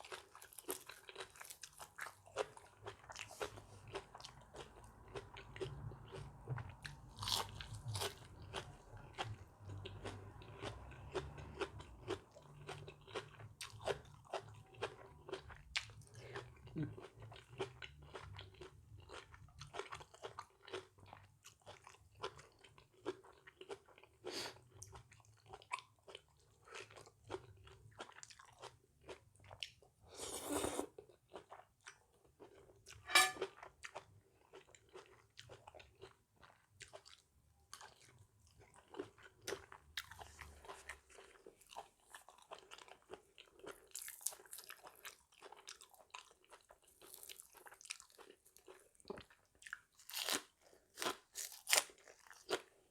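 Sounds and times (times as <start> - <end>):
person chewing and crunching: 0.0 - 52.9.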